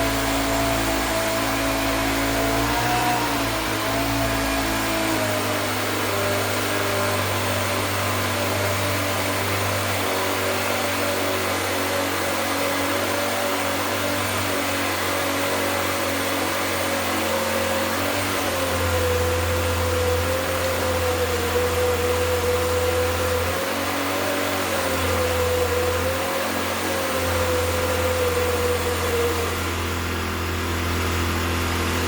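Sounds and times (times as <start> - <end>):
small electric motor whining: 0.0 - 32.0.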